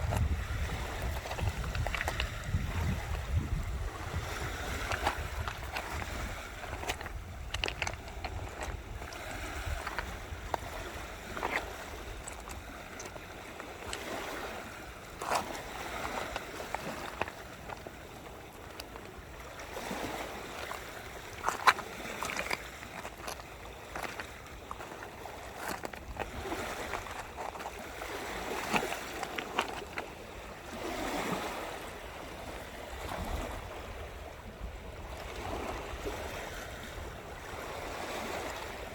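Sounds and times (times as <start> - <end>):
wind rumble on microphone: 0.0 - 20.8, 24.0 - 38.9
seawater lapping at shore: 0.0 - 38.9.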